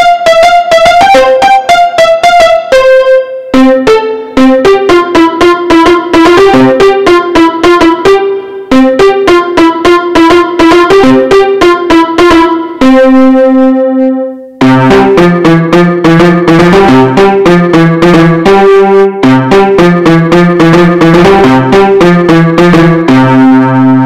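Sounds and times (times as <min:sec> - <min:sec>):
keyboard playing piano notes: 0:00.0 - 0:24.0.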